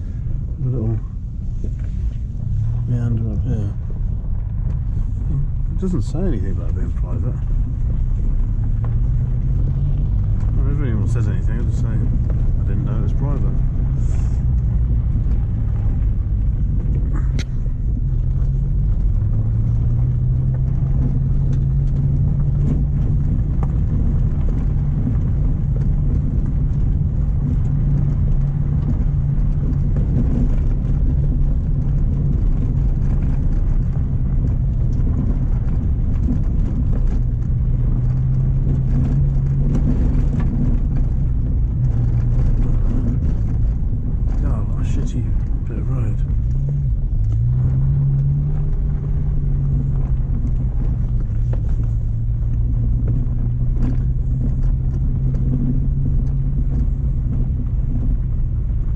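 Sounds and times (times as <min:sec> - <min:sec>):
car engine running: 0:00.0 - 0:58.9.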